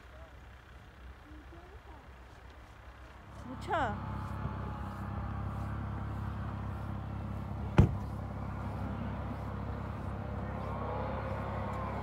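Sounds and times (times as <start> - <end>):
snowmobile engines running: 0.0 - 12.0.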